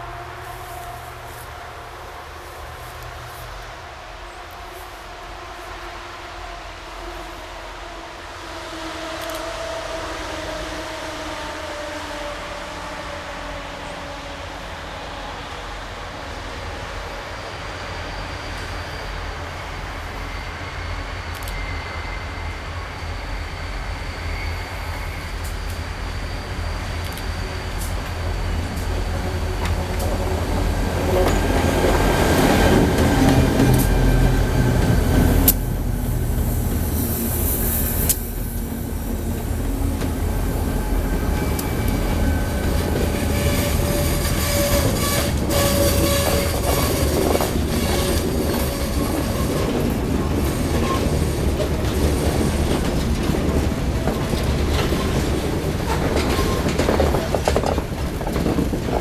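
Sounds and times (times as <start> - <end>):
freight train rumbling: 0.0 - 59.0
steel wheels squealing on rails: 0.0 - 59.0.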